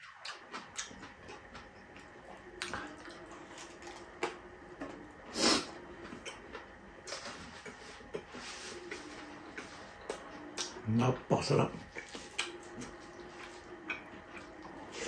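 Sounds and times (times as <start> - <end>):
person chewing wetly: 0.0 - 4.5, 5.8 - 10.8, 11.8 - 15.0.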